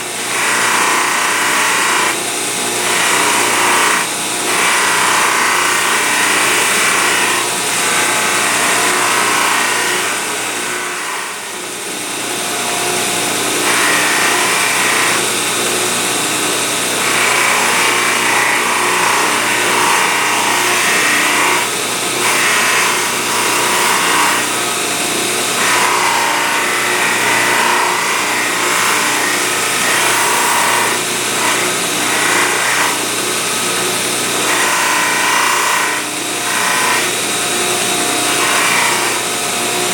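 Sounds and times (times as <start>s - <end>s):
steel grinding rasp: 0.0s - 11.6s, 12.4s - 39.9s
power tool motor hum: 0.0s - 39.9s.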